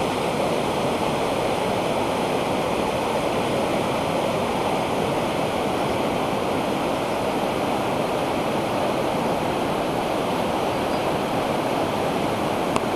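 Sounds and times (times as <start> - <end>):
river rapids and waterfall rushing: 0.0 - 12.9.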